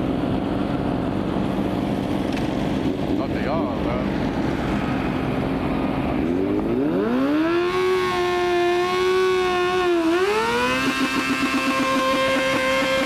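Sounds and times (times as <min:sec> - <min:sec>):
car engine revving: 0:02.2 - 0:13.0.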